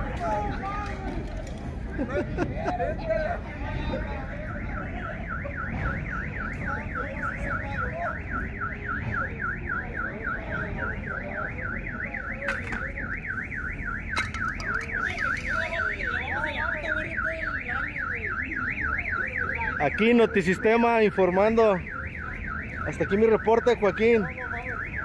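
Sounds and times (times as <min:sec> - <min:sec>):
car alarm warbling: 0:04.3 - 0:25.0.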